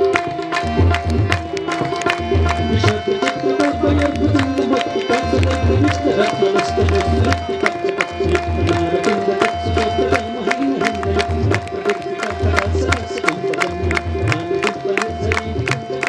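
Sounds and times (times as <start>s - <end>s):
devotional music: 0.0s - 16.0s
rapid tabla-like drum beats: 0.0s - 16.0s.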